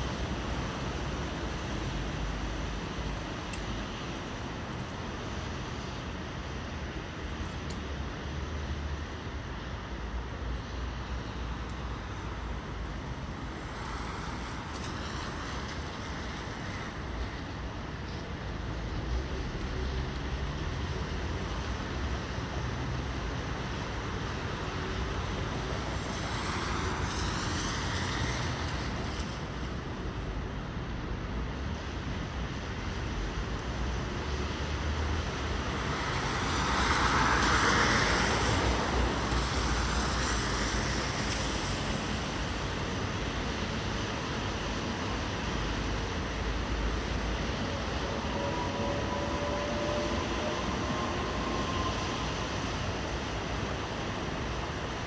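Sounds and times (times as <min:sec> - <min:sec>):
city traffic noise: 0:00.0 - 0:55.0.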